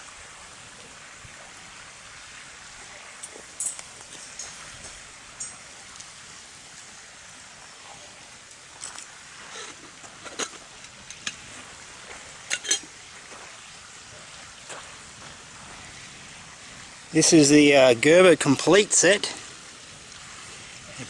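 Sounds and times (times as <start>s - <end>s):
campfire crackling: 0.0s - 21.0s
steady background hiss: 0.0s - 21.0s
fire popping: 2.6s - 21.0s.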